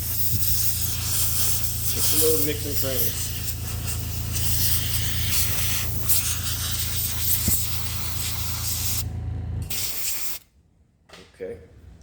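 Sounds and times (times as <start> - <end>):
air jet hissing: 0.0 - 10.4
steady low hum: 0.0 - 11.0.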